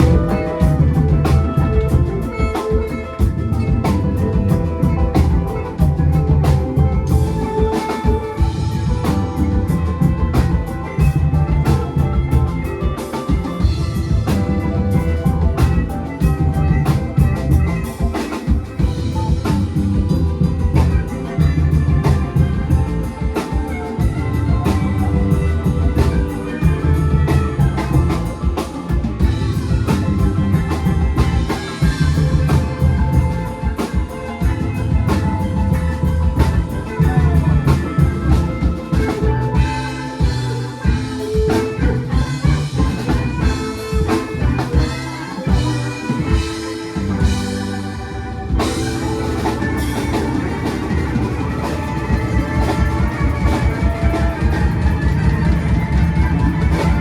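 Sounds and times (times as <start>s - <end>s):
bass guitar: 0.0s - 57.0s
drum kit: 0.0s - 57.0s.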